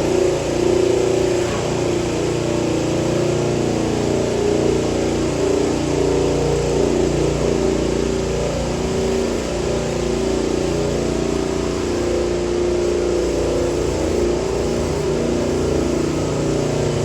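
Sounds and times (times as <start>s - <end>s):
engine running under load: 0.0s - 17.0s.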